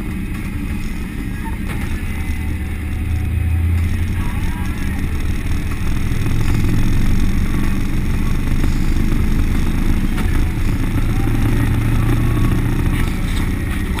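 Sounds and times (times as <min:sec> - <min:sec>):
truck exhaust drone: 0:00.0 - 0:14.0.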